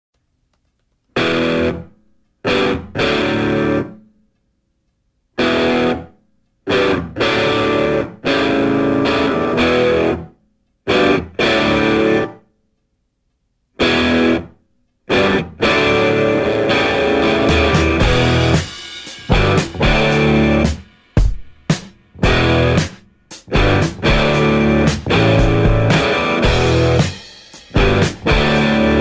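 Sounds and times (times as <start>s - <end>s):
loud guitar chords: 1.2s - 4.0s, 5.4s - 6.1s, 6.7s - 10.3s, 10.9s - 12.4s, 13.8s - 14.5s, 15.1s - 29.0s.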